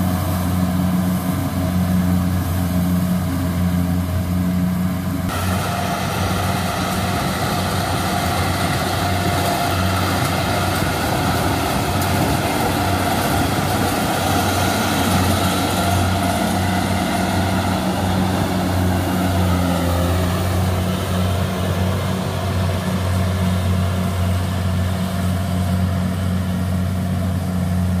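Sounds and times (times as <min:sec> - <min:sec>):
low engine drone: 0:00.0 - 0:28.0
machinery churning and rattling: 0:00.0 - 0:28.0.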